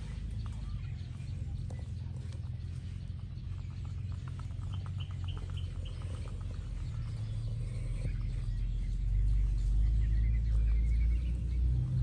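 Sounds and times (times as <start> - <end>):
ducklings peeping: 0.0 - 12.0
low rumble: 0.0 - 12.0.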